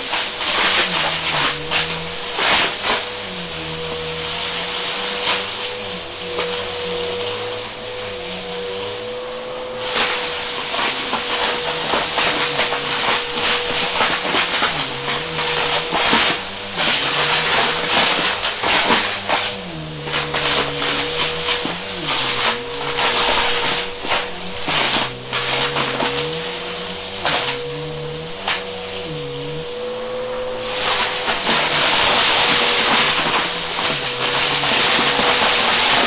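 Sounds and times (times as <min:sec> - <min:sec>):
grit crackling in vacuum: 0:00.0 - 0:36.0
vacuum cleaner motor whine: 0:00.0 - 0:36.0.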